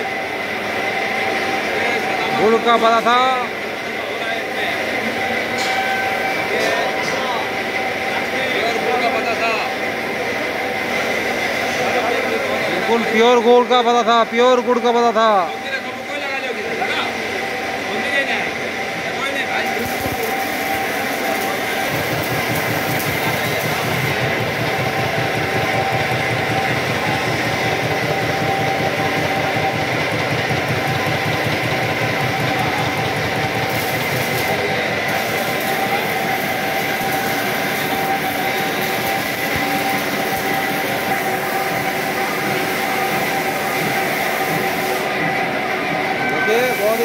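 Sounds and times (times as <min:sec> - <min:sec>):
machine clattering and whining: 0:00.1 - 0:47.0.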